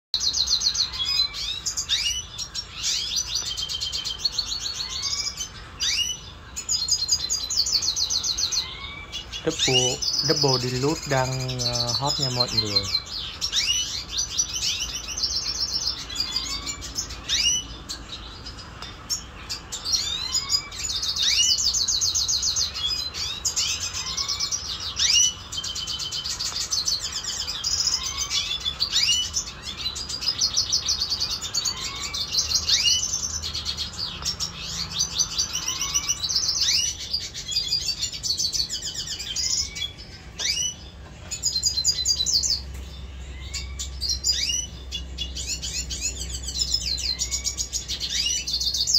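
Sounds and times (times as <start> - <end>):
birds singing trills and chirps: 0.1 - 48.9.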